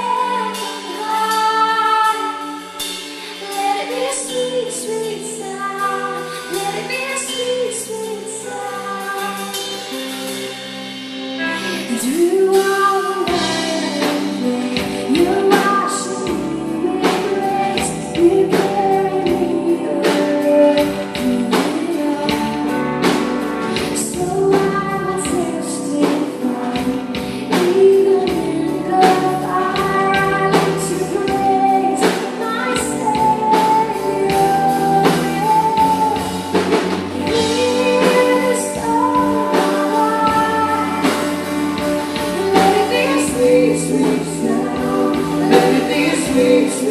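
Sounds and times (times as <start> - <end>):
woman singing: 0.0 - 10.3, 11.4 - 46.9
band with bass and beat: 0.0 - 46.9.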